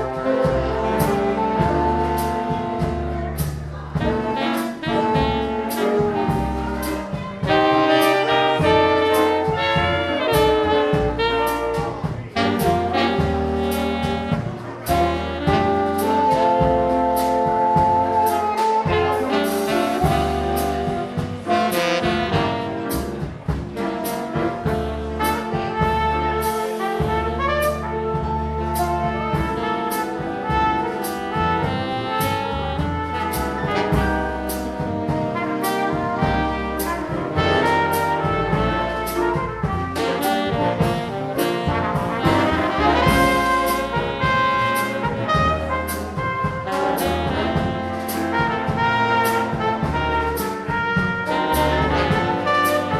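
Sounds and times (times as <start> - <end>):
big band playing swing jazz: 0.0 - 52.9.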